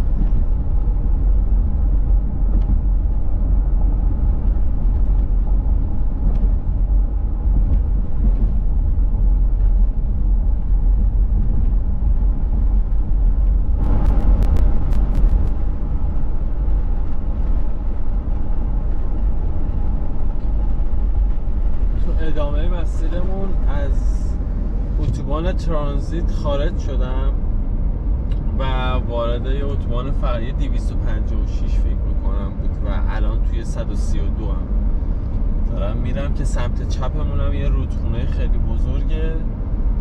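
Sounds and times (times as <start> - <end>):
car tyres and engine rumble: 0.0 - 40.0.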